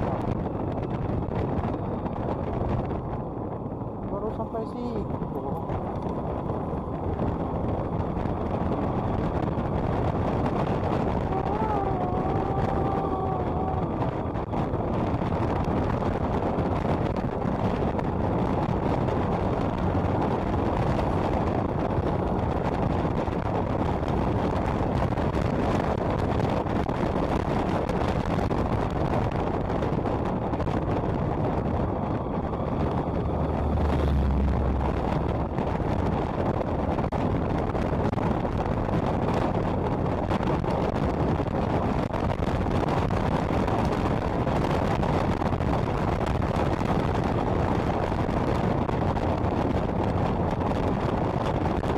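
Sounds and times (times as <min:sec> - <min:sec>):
motorcycle engine and road noise: 0:00.0 - 0:51.9
wind rushing over microphone: 0:00.0 - 0:51.9.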